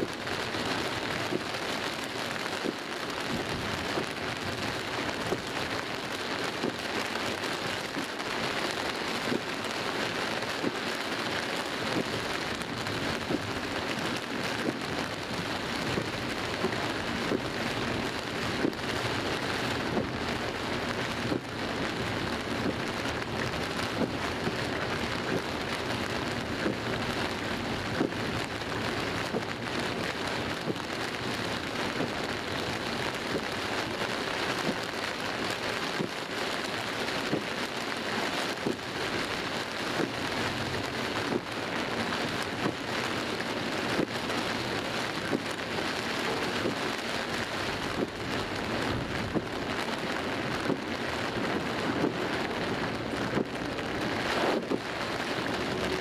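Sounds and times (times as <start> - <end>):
heavy rain on car roof: 0.0 - 56.0.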